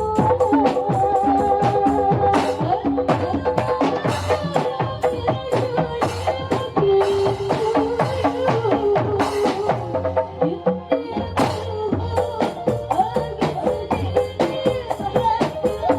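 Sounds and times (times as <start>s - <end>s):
hand drums playing fast rhythm: 0.0s - 15.9s.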